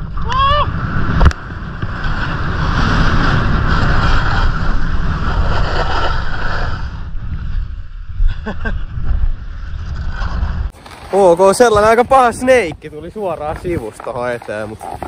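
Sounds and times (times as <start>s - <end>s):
wind buffeting microphone: 0.0s - 15.0s
boards scraping over snow: 0.7s - 15.0s.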